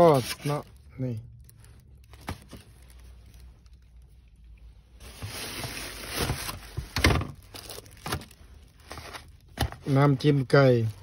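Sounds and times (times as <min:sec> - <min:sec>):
plastic bag rustling and crinkling: 0:00.0 - 0:11.0.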